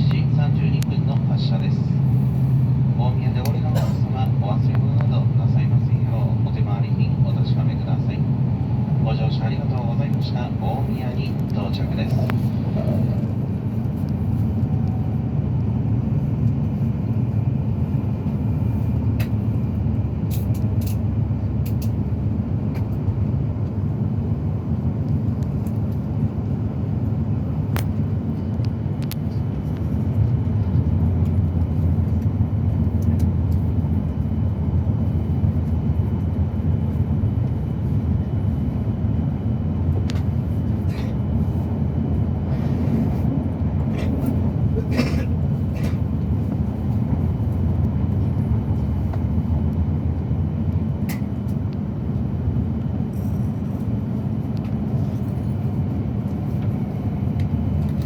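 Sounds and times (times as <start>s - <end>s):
train rumble inside cabin: 0.0s - 58.0s.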